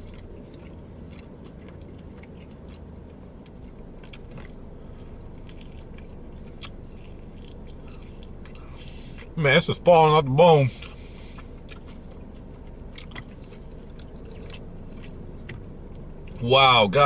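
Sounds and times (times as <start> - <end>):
person chewing: 0.0 - 9.4, 10.7 - 16.4
low steady hum: 0.0 - 17.0.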